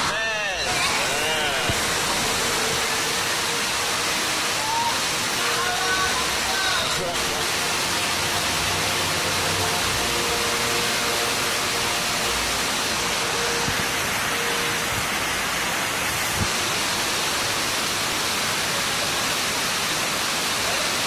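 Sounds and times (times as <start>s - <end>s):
river rapids rushing: 0.0s - 21.0s.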